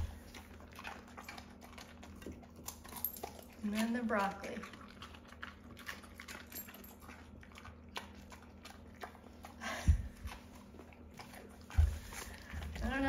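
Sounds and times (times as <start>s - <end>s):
dog crunching broccoli: 0.0s - 13.0s.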